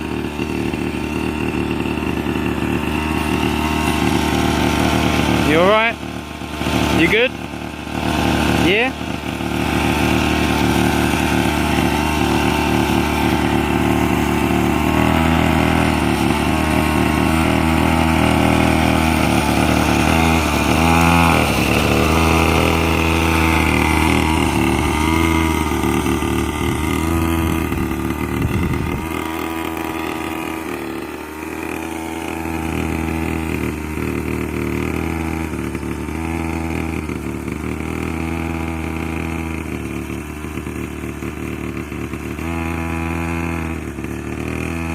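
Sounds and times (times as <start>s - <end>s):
quad bike engine at low revs: 0.0s - 44.9s.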